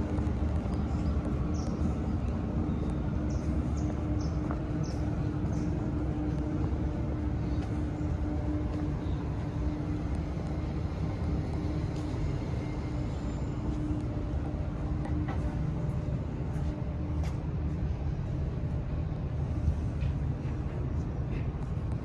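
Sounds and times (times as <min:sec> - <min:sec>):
low mechanical rumble and hum: 0:00.0 - 0:22.0.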